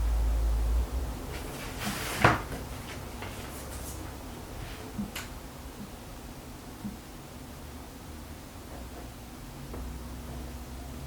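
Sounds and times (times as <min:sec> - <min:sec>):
faint room noise hiss: 0:00.0 - 0:11.0.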